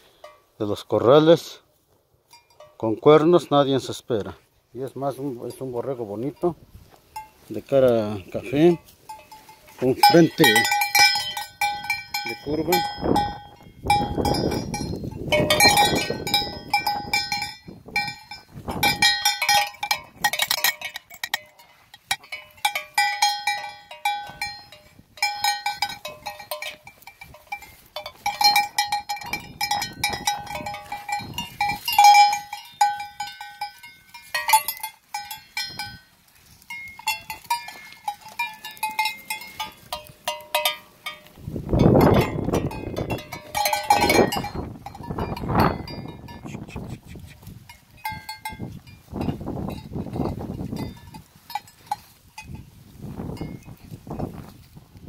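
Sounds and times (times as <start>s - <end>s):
metal sheep bell clanking: 0.1s - 1.5s, 2.3s - 3.9s, 5.2s - 46.7s, 47.4s - 54.2s.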